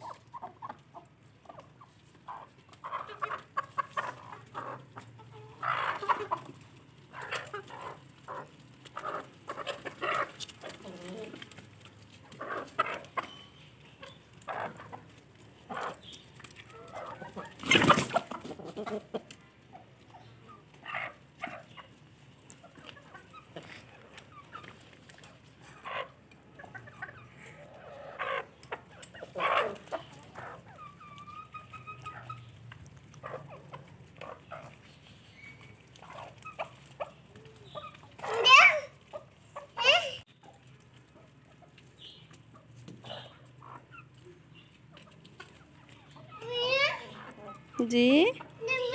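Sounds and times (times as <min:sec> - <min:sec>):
hens clucking: 0:00.0 - 0:48.9.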